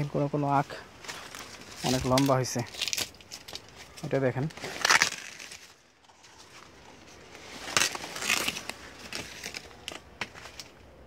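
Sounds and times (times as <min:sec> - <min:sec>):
leaves rustling and crackling: 0:00.0 - 0:11.0.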